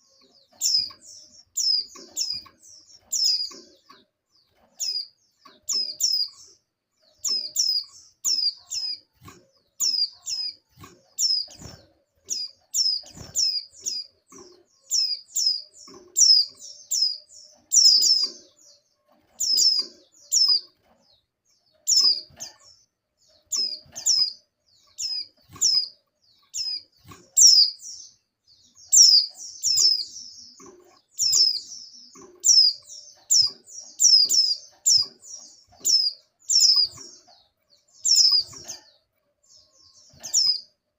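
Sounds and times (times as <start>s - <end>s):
bird high downward chirps: 0.0s - 40.9s.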